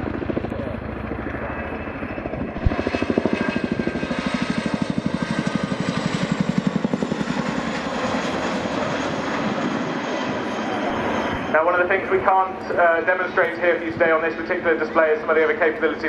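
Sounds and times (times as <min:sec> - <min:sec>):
faint high turbine whine: 0:00.0 - 0:16.0
helicopter rotors beating: 0:00.0 - 0:16.0.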